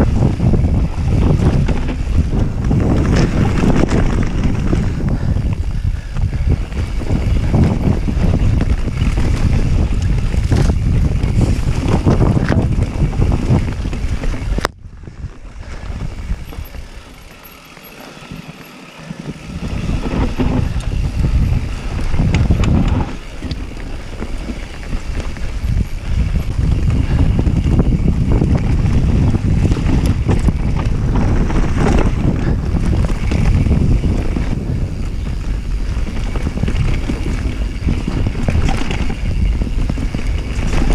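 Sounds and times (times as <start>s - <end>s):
bike knocking and rattling: 0.0s - 40.9s
tyres rolling on dirt: 0.0s - 40.9s
wind rumbling on microphone: 0.0s - 40.9s.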